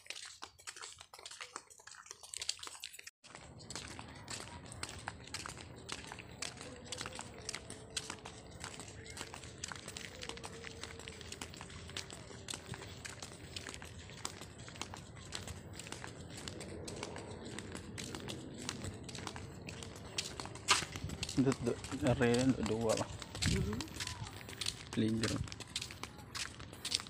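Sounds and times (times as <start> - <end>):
faint voices: 3.3 - 27.0.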